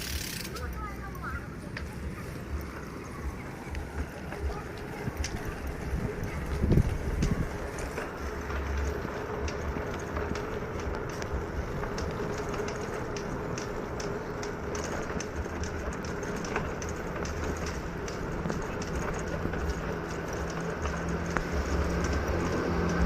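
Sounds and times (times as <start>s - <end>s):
bicycle tyre and road noise: 0.0s - 23.0s
small clicks and rattles: 0.0s - 23.0s
wind buffeting microphone: 0.6s - 23.0s.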